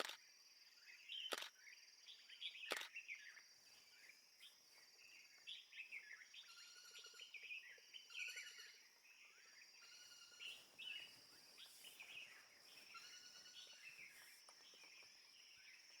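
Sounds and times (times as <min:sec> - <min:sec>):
small birds chirping and trilling: 0:00.7 - 0:16.0.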